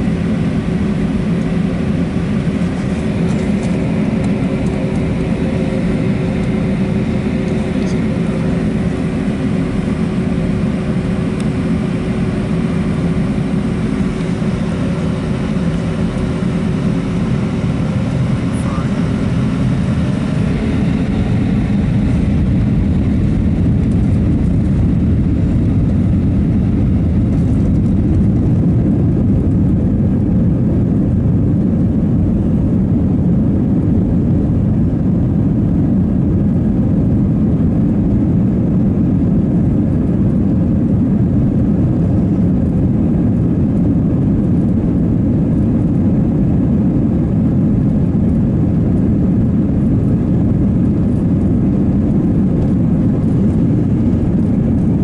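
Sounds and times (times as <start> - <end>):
jet engine low rumble in cabin: 0.0 - 55.0.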